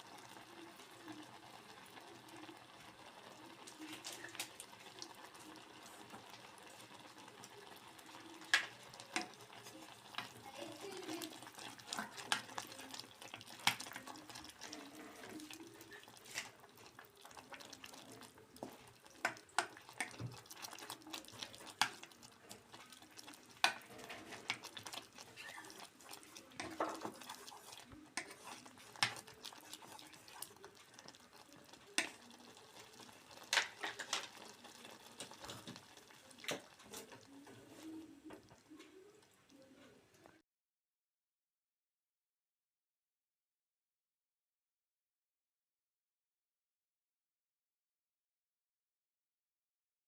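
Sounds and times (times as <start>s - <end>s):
faint steady background noise: 0.0s - 40.4s.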